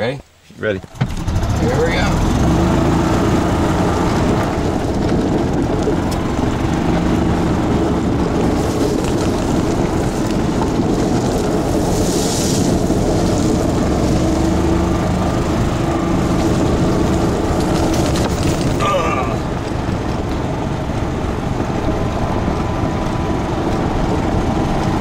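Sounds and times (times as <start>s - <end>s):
golf cart driving: 0.0s - 25.0s
tyres crunching on gravel: 0.7s - 25.0s.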